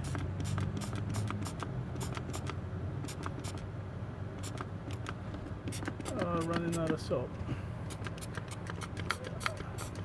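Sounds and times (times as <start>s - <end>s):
spray bottle squirting: 0.0s - 3.7s, 4.4s - 7.0s, 7.9s - 10.0s
steady low hum: 0.0s - 10.0s.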